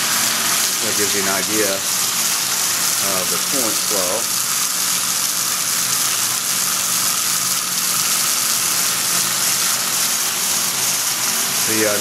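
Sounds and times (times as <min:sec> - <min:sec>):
coolant hissing and splashing: 0:00.0 - 0:12.0.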